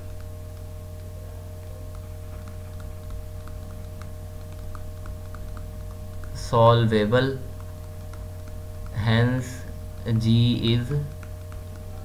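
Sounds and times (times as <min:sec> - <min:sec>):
stylus tapping on tablet: 0:00.0 - 0:01.1, 0:01.7 - 0:12.0
steady electrical hum: 0:00.0 - 0:12.0.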